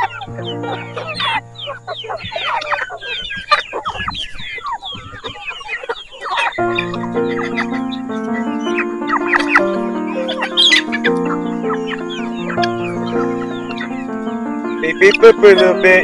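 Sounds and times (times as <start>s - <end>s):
background music: 0.0s - 4.2s, 6.2s - 16.0s
chickens clucking: 0.0s - 16.0s.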